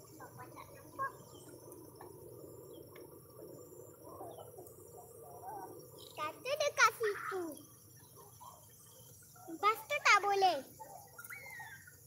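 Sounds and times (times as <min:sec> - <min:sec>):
faint bird chirps: 0:00.0 - 0:12.0
insect chorus: 0:00.0 - 0:12.0.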